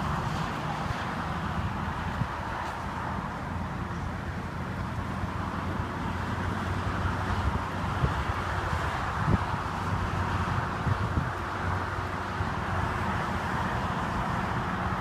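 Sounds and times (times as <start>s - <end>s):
wind noise on microphone: 0.0s - 3.3s, 4.8s - 15.0s.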